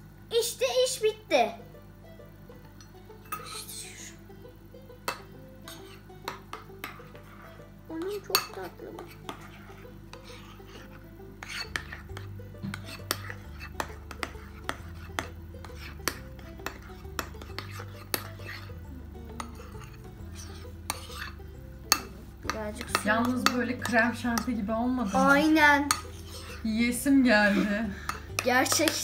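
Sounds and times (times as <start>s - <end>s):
spoon stirring slime: 3.2s - 3.7s, 5.1s - 26.7s, 27.4s - 29.0s.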